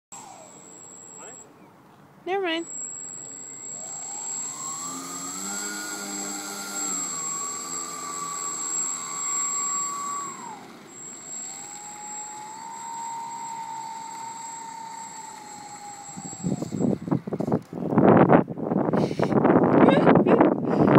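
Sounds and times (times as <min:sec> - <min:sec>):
model airplane motor whining: 0:00.1 - 0:01.5, 0:02.3 - 0:18.0.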